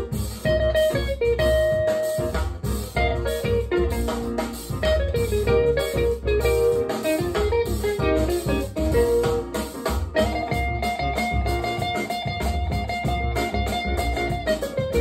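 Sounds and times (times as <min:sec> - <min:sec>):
guitar music with bass: 0:00.0 - 0:15.0.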